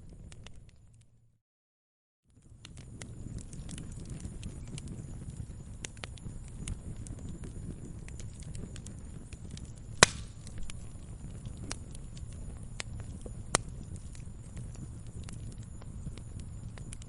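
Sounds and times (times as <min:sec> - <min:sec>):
wood fire crackling and popping: 0:00.0 - 0:01.1, 0:02.3 - 0:17.0.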